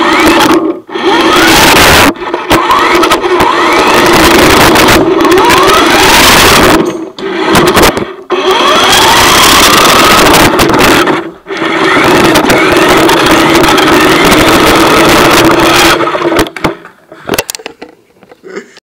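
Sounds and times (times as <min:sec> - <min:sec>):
rc car motor whining: 0:00.0 - 0:16.6.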